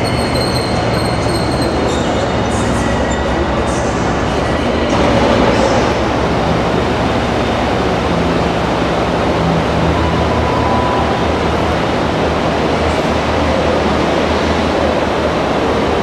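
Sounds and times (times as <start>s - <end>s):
diesel locomotive engines droning: 0.0s - 16.0s.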